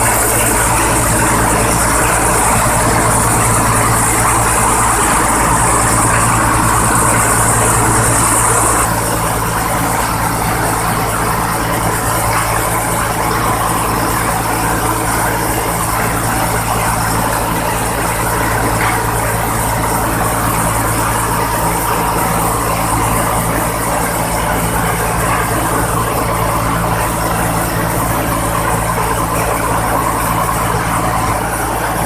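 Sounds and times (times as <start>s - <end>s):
rice milling machine drone: 0.0s - 32.0s.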